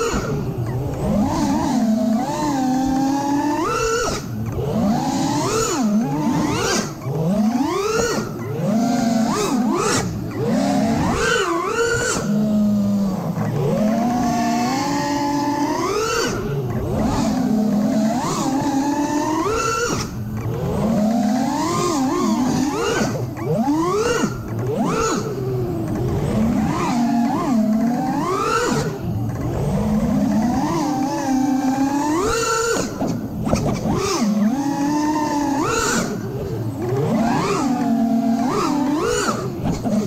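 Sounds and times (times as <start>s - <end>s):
drone motors whining: 0.0s - 40.0s.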